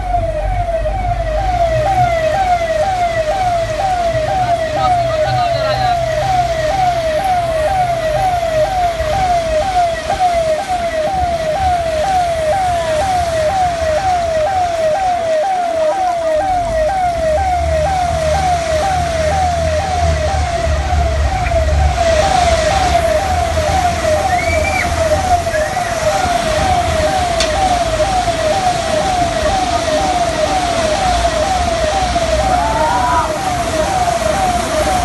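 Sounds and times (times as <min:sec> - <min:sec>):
siren wailing: 0:00.0 - 0:35.0.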